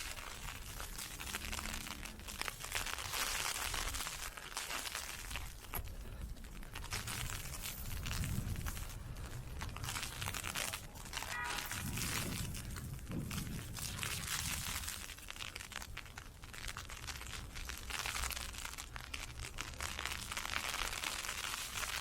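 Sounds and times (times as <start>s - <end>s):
ice pellets hitting an umbrella: 0.0s - 22.0s.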